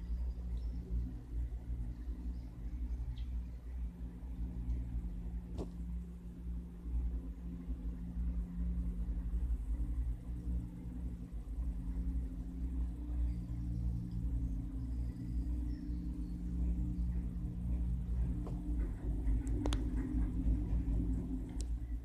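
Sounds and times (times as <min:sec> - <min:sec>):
cable car cabin rumble: 0:00.0 - 0:22.0.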